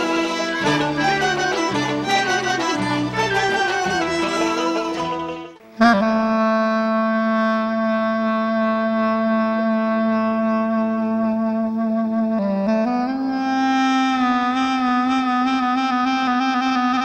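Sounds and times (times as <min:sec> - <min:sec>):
clarinet holding long note: 0:00.0 - 0:17.0.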